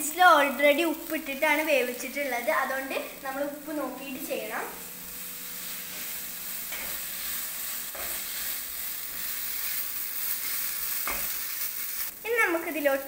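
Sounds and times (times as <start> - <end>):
food sizzling in a pan: 0.0 - 13.0
stirring strokes in a pan: 0.2 - 12.2.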